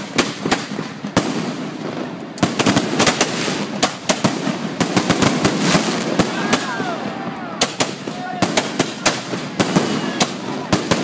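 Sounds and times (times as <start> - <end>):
fireworks bangs and pops: 0.0 - 11.0
fireworks crackle: 0.0 - 11.0.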